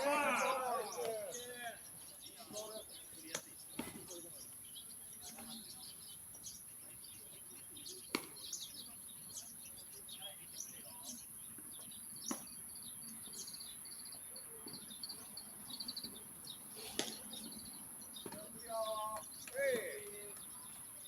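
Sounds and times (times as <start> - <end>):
bird trill: 0.0 - 21.0
outdoor background noise: 0.0 - 21.0
small birds chirping: 0.0 - 21.0.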